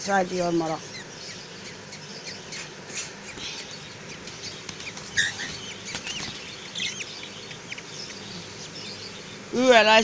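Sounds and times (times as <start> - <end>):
budgerigars chirping: 0.0 - 10.0
faint low hum: 0.0 - 10.0.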